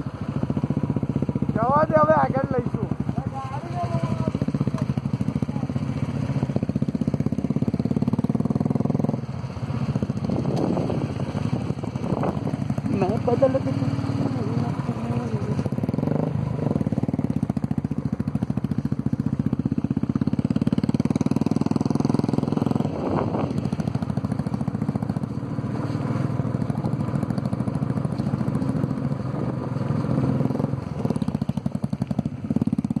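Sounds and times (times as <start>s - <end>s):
motorcycle engine throbbing: 0.0s - 33.0s.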